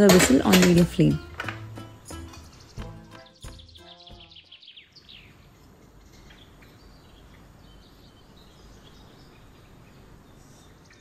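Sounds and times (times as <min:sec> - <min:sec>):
bird chirps: 0:02.1 - 0:11.0.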